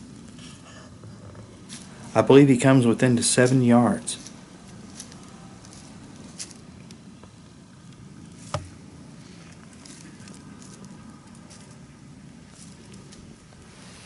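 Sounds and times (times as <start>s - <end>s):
faint rustling and patter: 0.1s - 14.0s.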